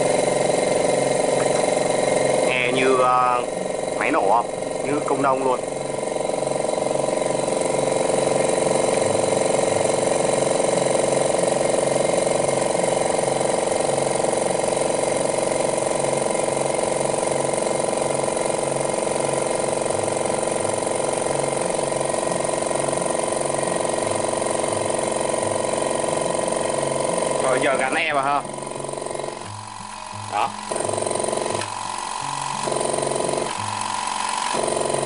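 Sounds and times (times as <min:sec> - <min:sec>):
air compressor running: 0:00.0 - 0:35.0.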